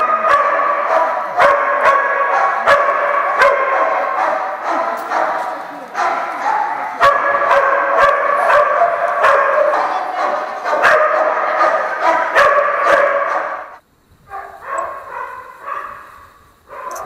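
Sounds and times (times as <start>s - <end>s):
dogs barking: 0.0s - 17.0s.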